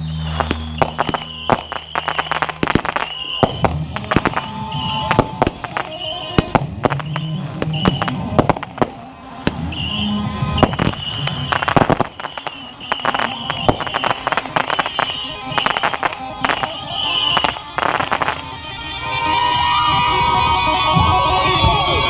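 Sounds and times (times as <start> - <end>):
fireworks bangs and crackling: 0.0 - 18.6.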